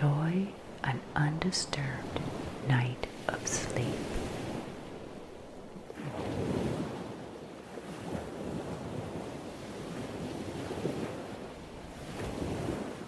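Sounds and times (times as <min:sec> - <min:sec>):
ocean waves crashing: 0:00.0 - 0:13.0.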